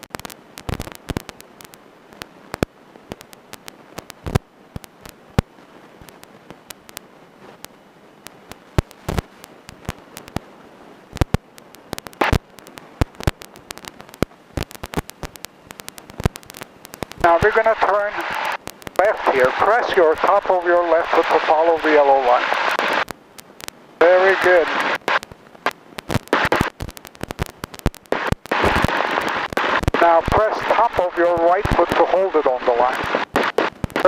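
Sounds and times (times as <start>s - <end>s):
faint hiss: 0.0s - 34.0s
static crackles and clicks: 0.0s - 34.0s.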